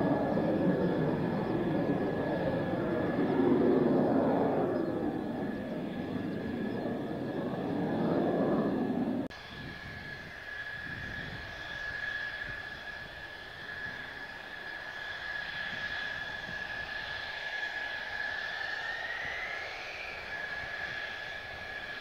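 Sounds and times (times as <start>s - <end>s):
high-pitched jet engine whine: 0.0s - 22.0s
jet roar flying by: 0.0s - 22.0s.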